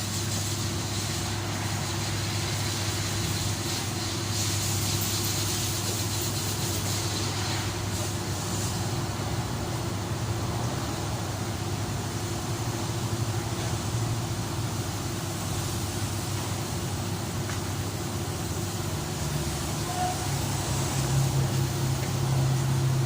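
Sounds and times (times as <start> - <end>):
even hiss: 0.0 - 23.0.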